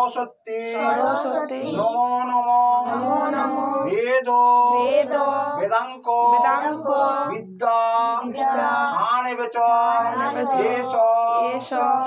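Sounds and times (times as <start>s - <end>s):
person singing slow devotional song: 0.0s - 12.0s.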